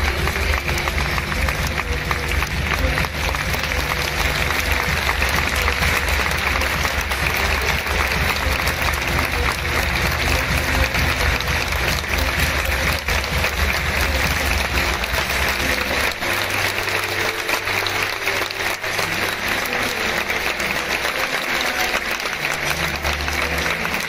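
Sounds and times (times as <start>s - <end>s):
crowd applauding: 0.0s - 24.0s.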